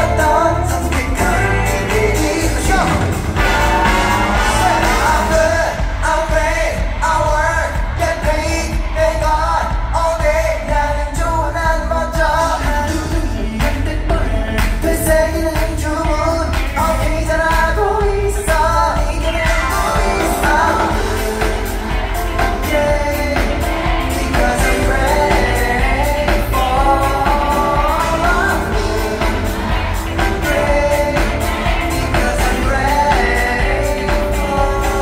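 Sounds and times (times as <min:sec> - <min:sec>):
dance-pop backing track: 0:00.0 - 0:35.0
man singing: 0:00.0 - 0:35.0.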